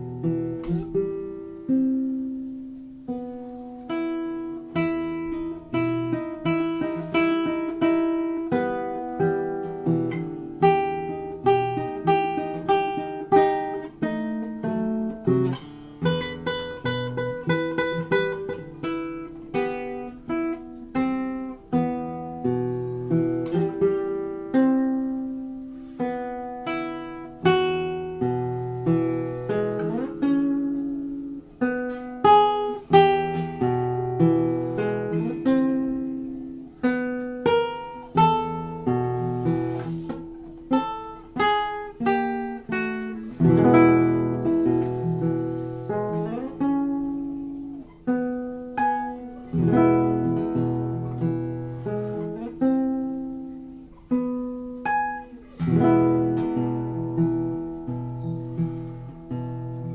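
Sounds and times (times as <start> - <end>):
guitar plucked melody: 0.0 - 59.9.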